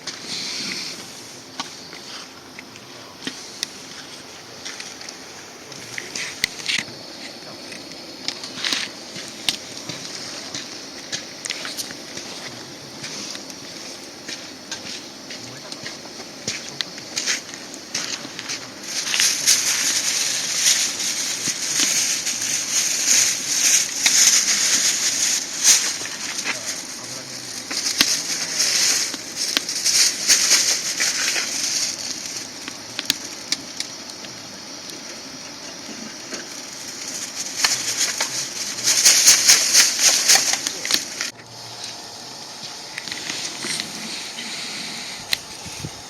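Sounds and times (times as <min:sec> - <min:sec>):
wood fire crackling and popping: 0:00.0 - 0:46.0.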